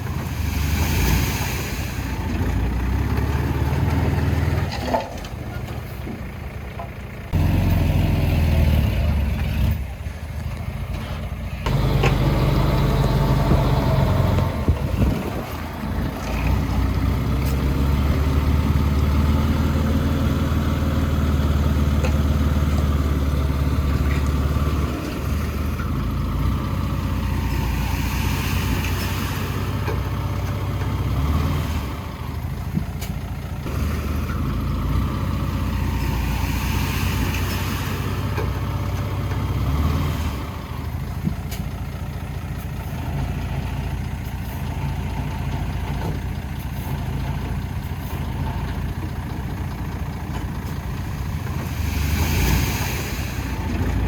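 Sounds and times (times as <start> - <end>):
heavy diesel engine revving: 0.0 - 4.8, 7.2 - 10.0, 11.0 - 54.0.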